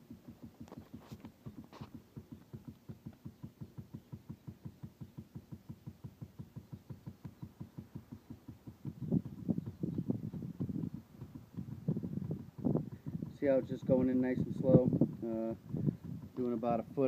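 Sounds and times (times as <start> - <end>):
rapid knocking in pipe: 0.0 - 17.0.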